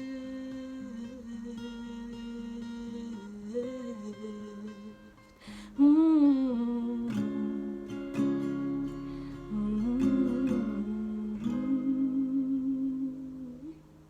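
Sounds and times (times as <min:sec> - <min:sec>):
person humming: 0:00.0 - 0:07.8, 0:08.7 - 0:13.8
acoustic guitar strumming: 0:00.0 - 0:14.0.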